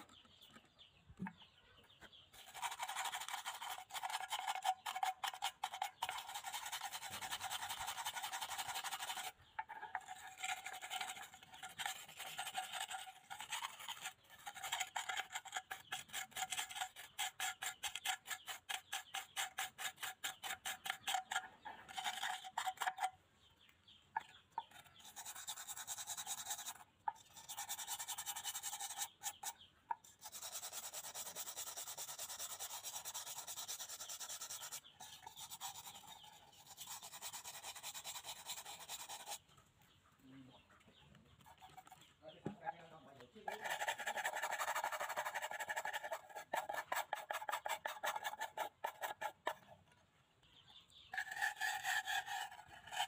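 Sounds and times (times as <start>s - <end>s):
stiff brush scrubbing metal: 2.4s - 23.2s, 24.2s - 39.5s, 41.4s - 49.7s, 51.1s - 53.0s.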